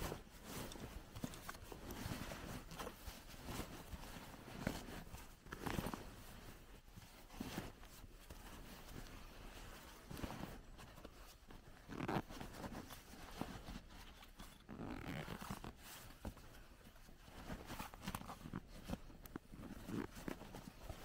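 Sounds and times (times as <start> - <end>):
fabric rustling in rucksack: 0.0 - 21.0.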